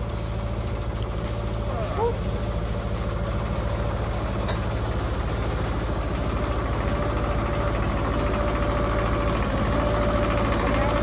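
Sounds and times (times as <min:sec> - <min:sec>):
sawmill engine idling: 0:00.0 - 0:11.0.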